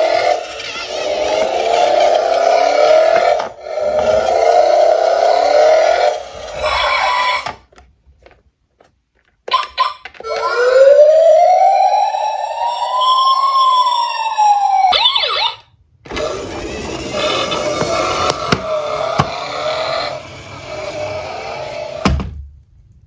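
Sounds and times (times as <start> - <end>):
electronic siren wail: 0.0 - 7.4, 10.2 - 22.0.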